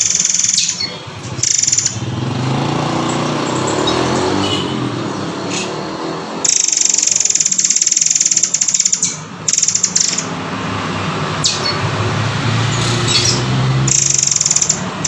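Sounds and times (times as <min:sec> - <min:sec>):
rapid high bird trill: 0:00.0 - 0:10.4, 0:11.4 - 0:12.0, 0:12.6 - 0:15.0
passing motor vehicle: 0:00.0 - 0:15.0.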